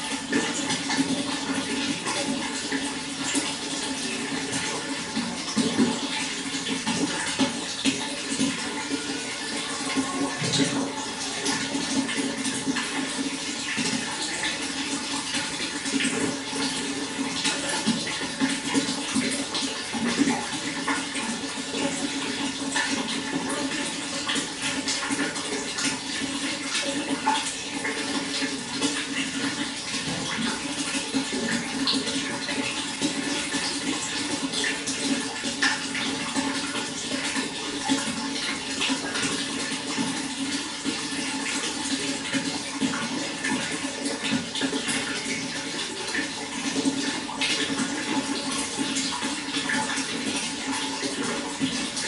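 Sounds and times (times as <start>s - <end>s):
running water splashing: 0.0s - 52.0s.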